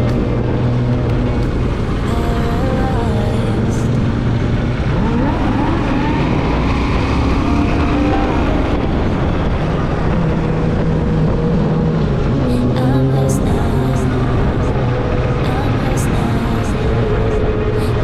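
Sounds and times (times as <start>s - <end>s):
motorcycle engine accelerating: 0.0s - 18.0s
rushing noise: 0.0s - 18.0s.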